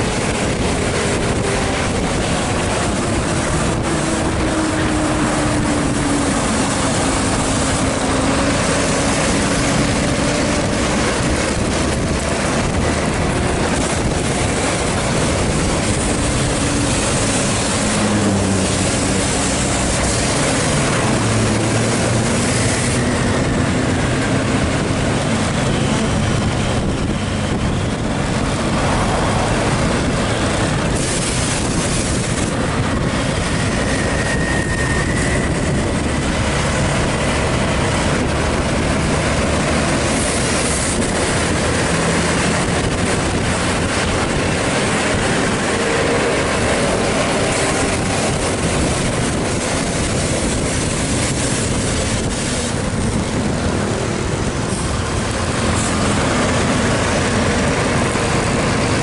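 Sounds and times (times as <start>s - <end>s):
engine and road noise: 0.0s - 59.0s
wind rush: 0.0s - 59.0s.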